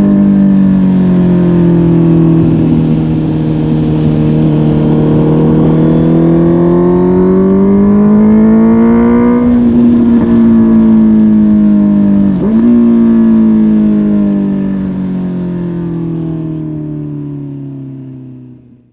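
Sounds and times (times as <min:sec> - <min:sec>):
motorcycle engine under way: 0:00.0 - 0:17.8.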